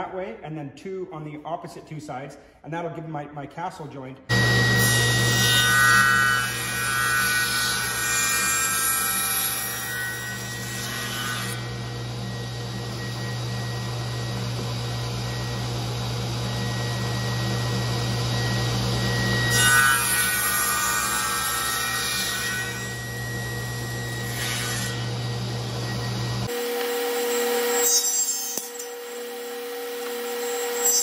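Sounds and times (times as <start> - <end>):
table saw cutting wood: 4.3 - 31.0.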